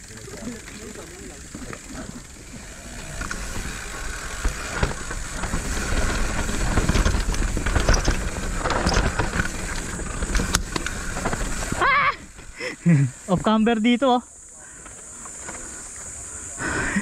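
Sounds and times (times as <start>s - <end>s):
bike knocking and rattling: 0.0s - 13.7s, 14.4s - 16.2s
mountain bike riding rumble: 0.0s - 17.0s.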